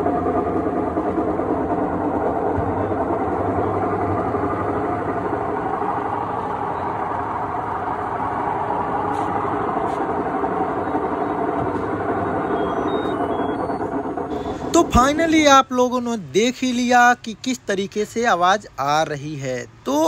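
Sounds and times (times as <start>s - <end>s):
washing machine running: 0.0s - 16.2s.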